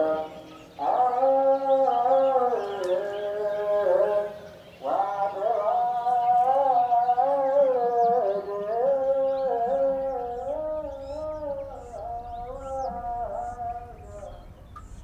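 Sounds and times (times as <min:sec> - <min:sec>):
person singing wordless melody: 0:00.0 - 0:14.8.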